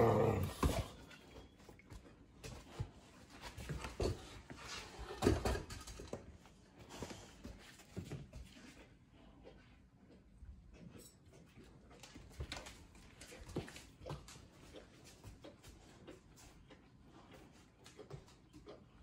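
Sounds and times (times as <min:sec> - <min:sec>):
paws knocking and scuffing on floor: 0:00.0 - 0:19.0.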